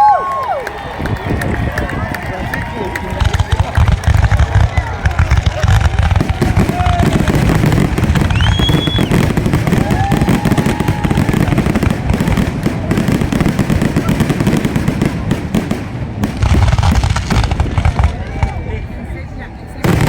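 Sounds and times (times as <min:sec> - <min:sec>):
fireworks popping and banging: 0:00.2 - 0:19.1, 0:19.8 - 0:20.0.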